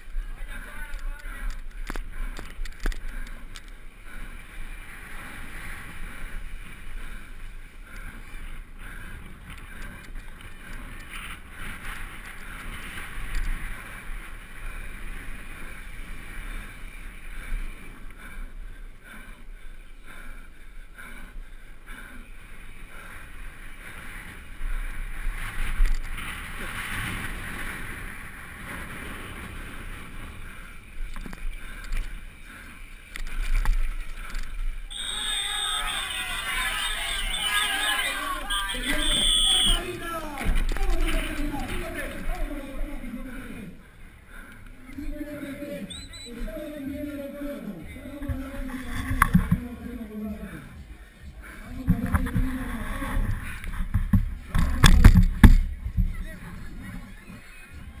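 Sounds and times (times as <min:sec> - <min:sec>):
bike rattling: 0:00.0 - 0:21.0, 0:21.6 - 0:58.0.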